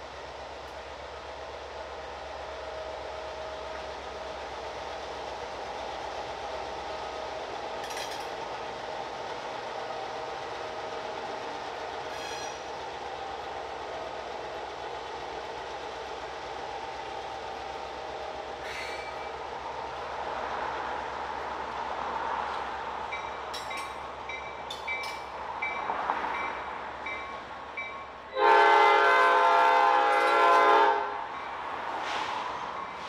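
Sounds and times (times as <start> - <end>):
freight train rumbling: 0.0 - 33.0.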